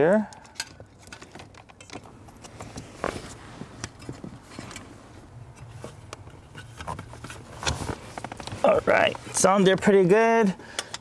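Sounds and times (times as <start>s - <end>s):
cables and plastic connectors handled: 0.2s - 11.0s.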